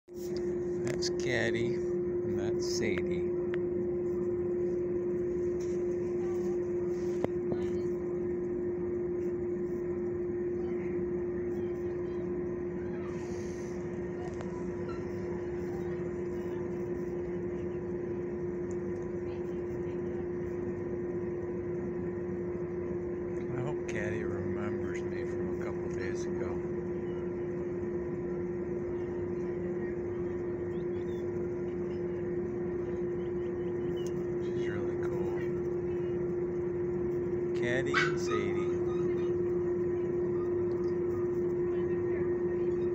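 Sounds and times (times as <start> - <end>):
machine hum: 0.1 - 42.9.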